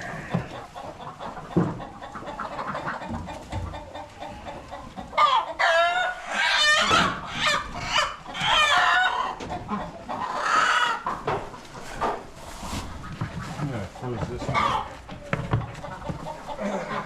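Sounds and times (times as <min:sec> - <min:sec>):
chickens squawking: 0:00.0 - 0:17.0.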